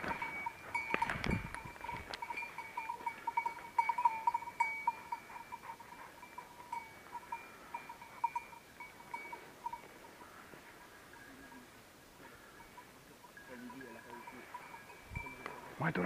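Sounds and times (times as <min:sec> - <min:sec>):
dog collar bell jingling: 0:00.0 - 0:10.3, 0:12.6 - 0:16.0.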